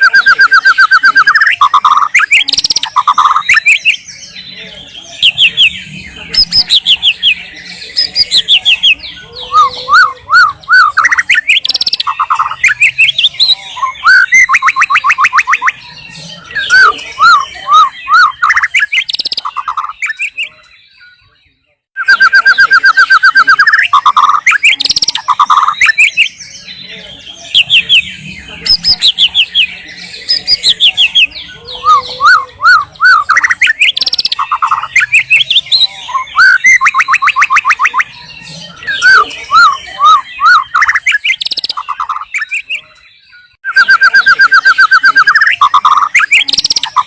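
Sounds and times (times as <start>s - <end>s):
bird singing whistles and trills: 0.0s - 47.0s.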